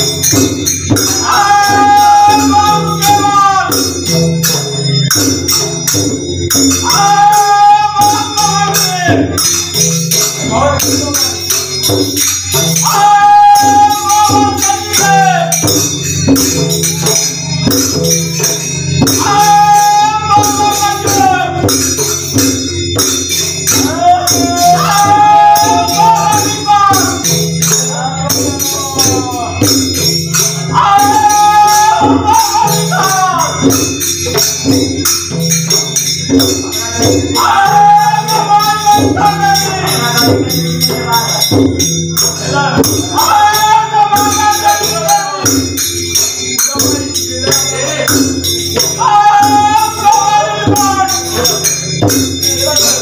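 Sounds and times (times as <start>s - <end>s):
person singing lead: 0.0s - 4.2s, 6.6s - 11.8s, 12.6s - 17.6s, 19.0s - 22.6s, 23.7s - 53.0s
hand drum beat: 0.0s - 53.0s
small hand cymbals: 0.0s - 53.0s.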